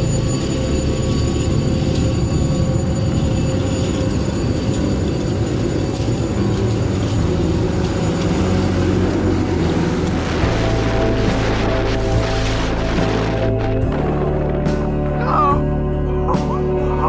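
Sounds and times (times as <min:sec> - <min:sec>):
turboprop engines droning: 0:00.0 - 0:17.0.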